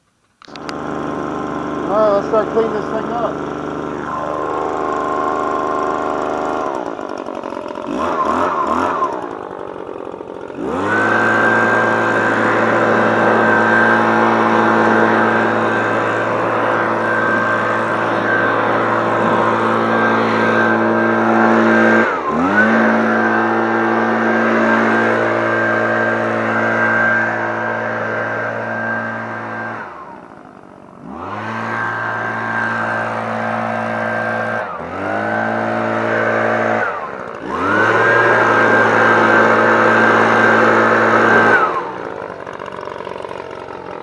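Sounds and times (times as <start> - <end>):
leaf blower running: 0.0 - 44.0.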